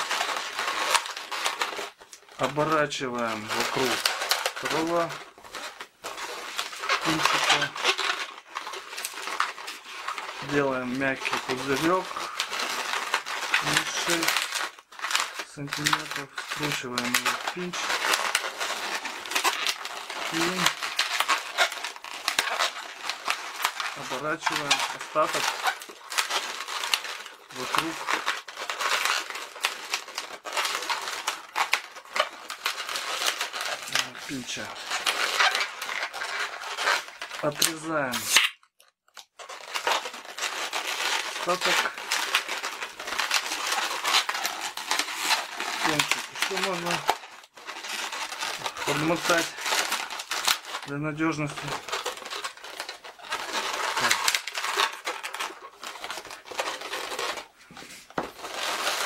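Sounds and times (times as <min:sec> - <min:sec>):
balloons rubbing and scraping: 0:00.0 - 0:38.5, 0:39.4 - 0:59.0.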